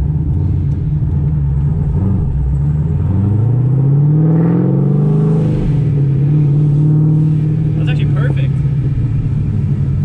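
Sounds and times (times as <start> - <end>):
car engine revving up: 0.0 - 10.0.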